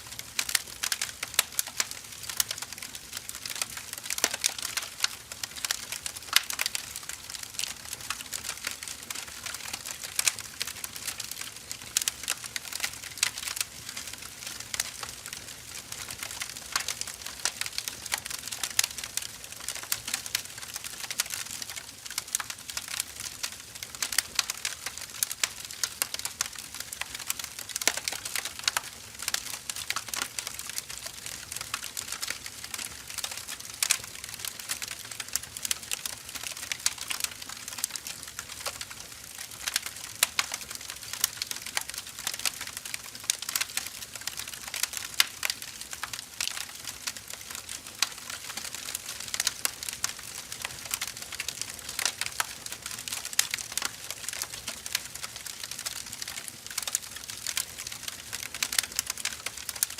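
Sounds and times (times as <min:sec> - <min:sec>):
firewood burning and crackling: 0:00.0 - 0:59.9
fire popping: 0:00.2 - 0:59.9.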